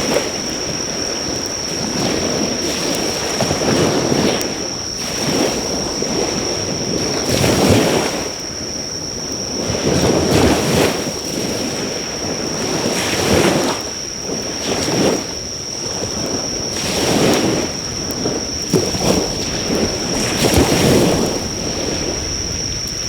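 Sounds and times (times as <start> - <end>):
bonfire crackle: 0.0 - 23.0
insect trill: 0.0 - 23.0
sea waves washing onto shore: 0.0 - 23.0.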